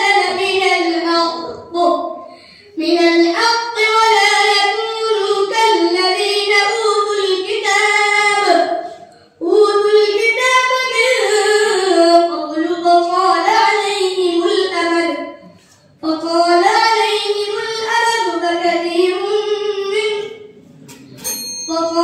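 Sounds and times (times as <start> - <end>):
boy chanting melodically: 0.0 - 20.6.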